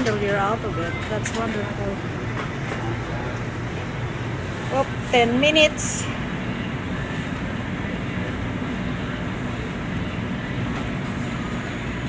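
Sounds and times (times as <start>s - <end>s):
low machinery rumble: 0.0s - 12.0s.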